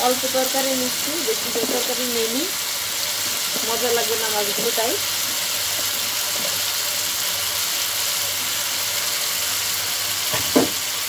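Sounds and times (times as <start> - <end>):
curry sizzling in a frying pan: 0.0 - 11.0.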